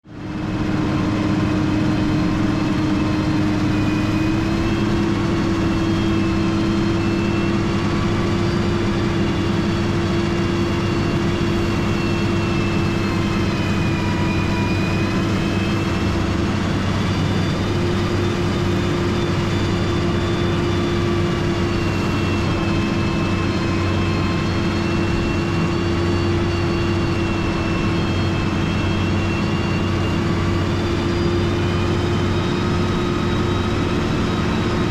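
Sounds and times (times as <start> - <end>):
diesel engine droning: 0.0 - 34.9
high engine whine: 0.0 - 34.9.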